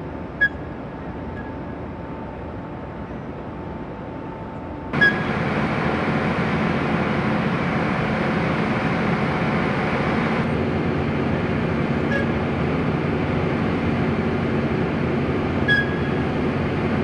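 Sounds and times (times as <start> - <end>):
machinery rumble with low hum: 0.0 - 17.0.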